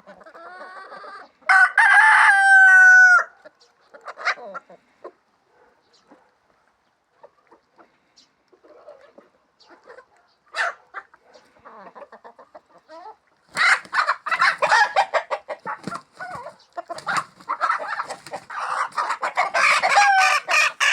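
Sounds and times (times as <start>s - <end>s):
chickens clucking and squawking: 0.0s - 6.3s, 7.1s - 20.9s.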